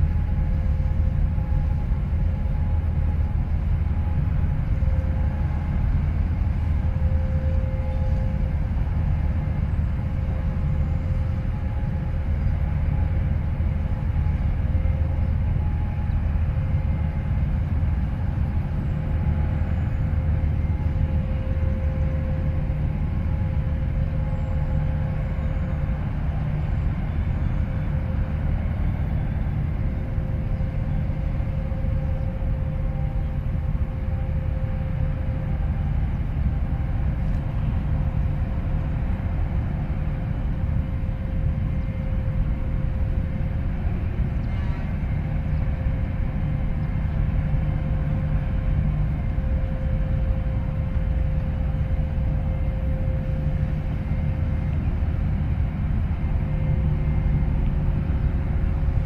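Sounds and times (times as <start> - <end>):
constant hum: 0.0 - 59.0
low machinery rumble: 0.0 - 59.0.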